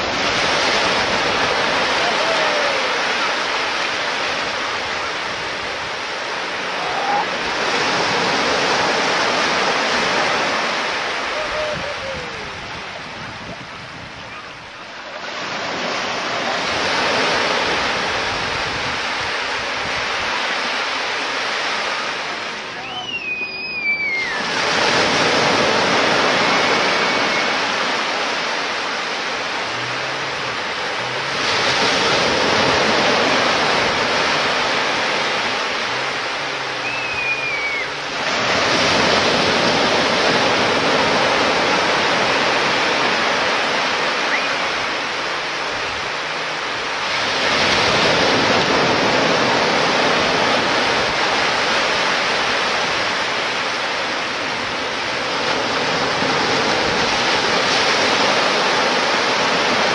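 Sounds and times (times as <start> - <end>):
waves breaking on a beach: 0.0 - 59.9.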